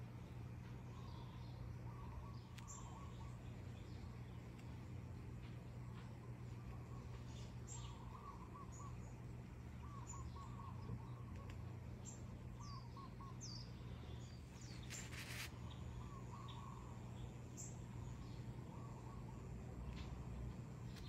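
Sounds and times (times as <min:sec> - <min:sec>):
steady low hum: 0:00.0 - 0:21.0
birds chirping: 0:00.1 - 0:21.0.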